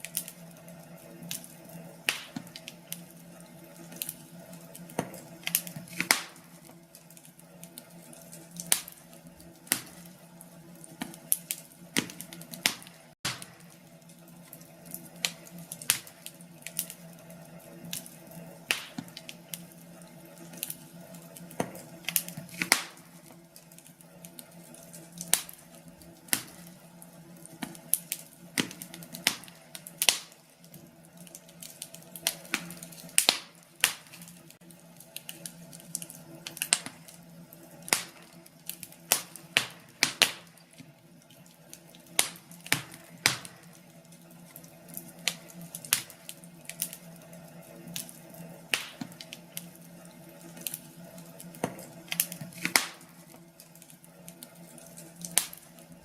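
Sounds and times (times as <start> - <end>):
low steady hiss of fire: 0.0 - 56.0
wood fire crackling and popping: 0.0 - 56.0.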